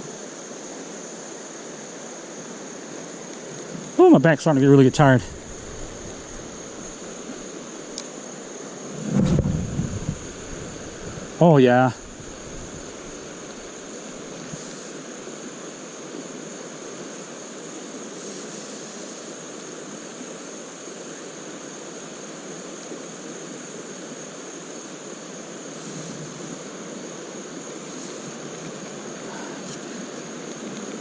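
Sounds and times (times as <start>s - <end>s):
creek water over rocks: 0.0s - 31.0s.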